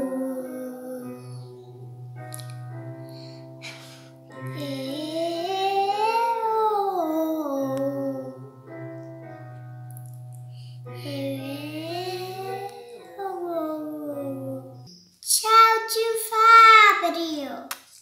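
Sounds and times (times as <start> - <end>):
girl singing vocal warm-up: 0.0 - 9.0, 10.8 - 17.4
held accompaniment notes: 0.0 - 15.0.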